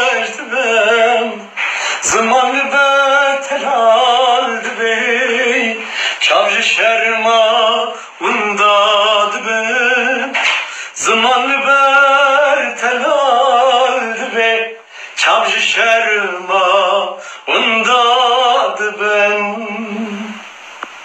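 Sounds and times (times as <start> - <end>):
man singing with vibrato: 0.0 - 20.5.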